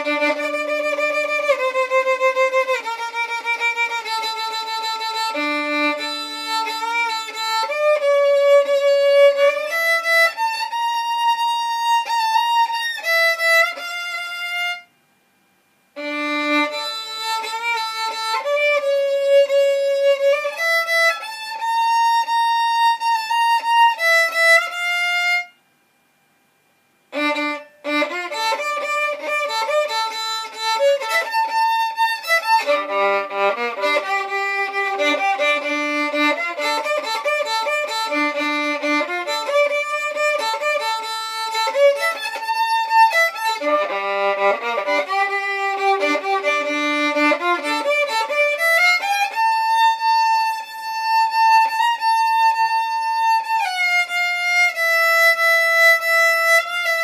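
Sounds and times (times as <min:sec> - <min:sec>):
solo violin melody: 0:00.0 - 0:14.9, 0:15.9 - 0:25.6, 0:27.1 - 0:57.0.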